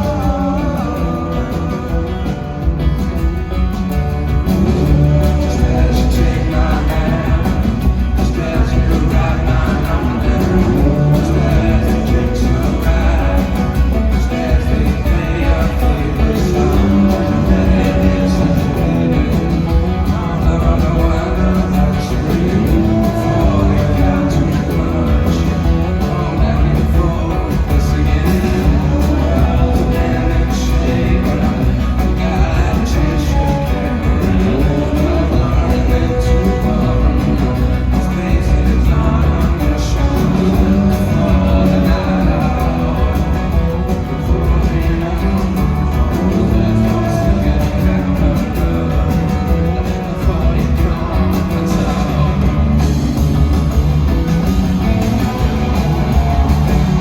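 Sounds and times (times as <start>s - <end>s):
person singing: 0.0s - 57.0s
rock band playing: 0.0s - 57.0s.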